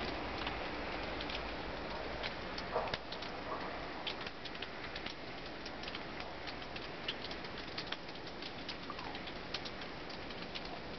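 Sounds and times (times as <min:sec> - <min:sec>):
faint light ticks of snow: 0:00.0 - 0:10.9
steady outdoor hiss: 0:00.0 - 0:10.9.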